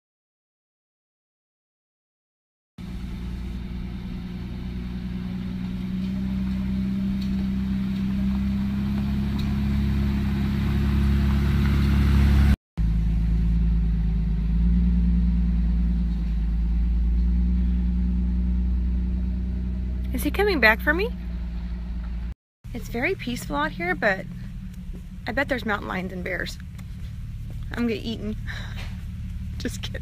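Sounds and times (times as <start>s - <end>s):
jeep engine running: 2.8s - 30.0s.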